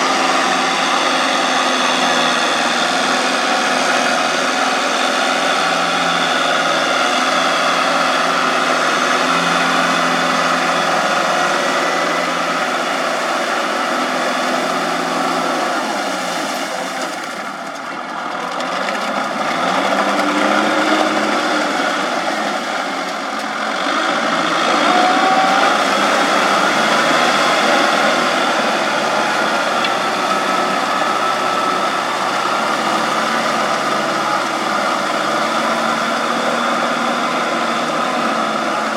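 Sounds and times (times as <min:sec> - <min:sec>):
farm machine engine running: 0:00.0 - 0:38.9.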